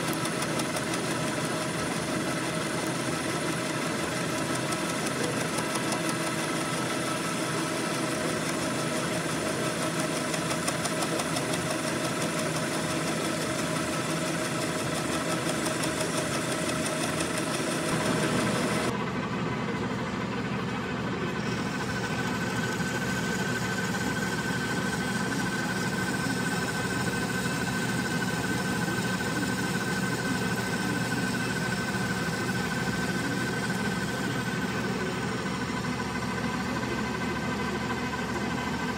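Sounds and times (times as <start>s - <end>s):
metal lathe running: 0.0s - 38.9s.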